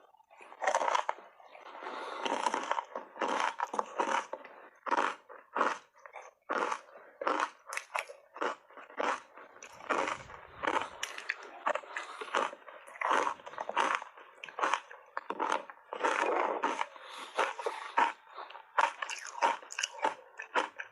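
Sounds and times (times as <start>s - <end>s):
ice bars crunching when chewed: 0.0s - 20.9s.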